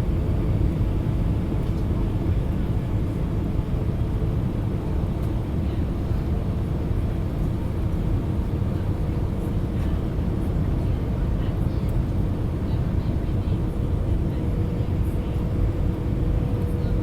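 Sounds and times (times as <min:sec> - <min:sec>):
airliner in flight roar: 0:00.0 - 0:17.0.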